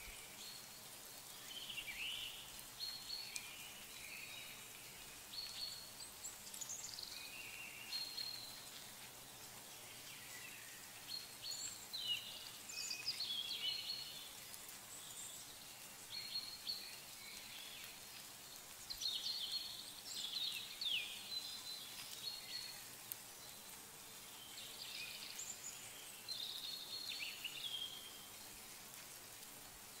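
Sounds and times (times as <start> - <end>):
low ambient hiss: 0.0 - 30.0.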